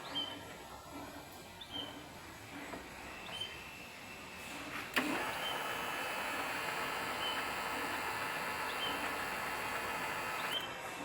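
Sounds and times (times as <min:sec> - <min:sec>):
metal lathe running: 0:01.4 - 0:10.7.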